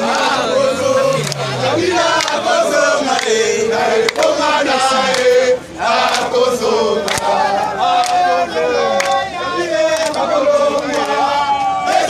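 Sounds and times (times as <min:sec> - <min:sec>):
crowd singing and chanting: 0:00.0 - 0:12.0.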